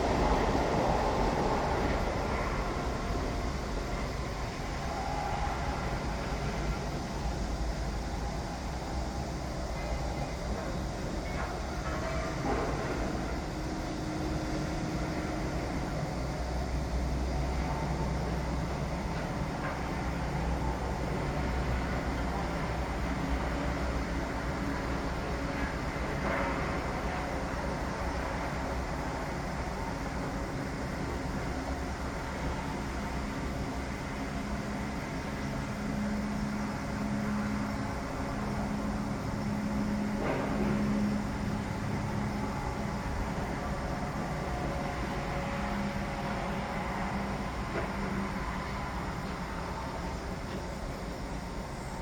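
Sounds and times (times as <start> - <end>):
construction machinery rumble: 0.0 - 52.0.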